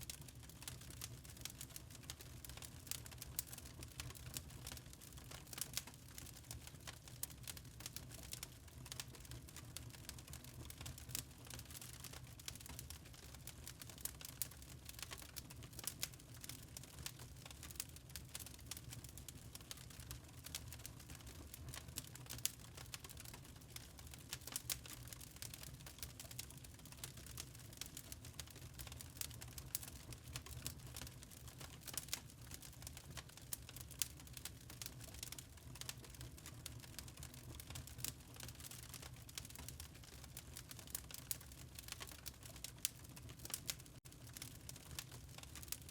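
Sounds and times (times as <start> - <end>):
wood fire crackling: 0.0 - 45.9
low rumble of flames: 0.1 - 45.9.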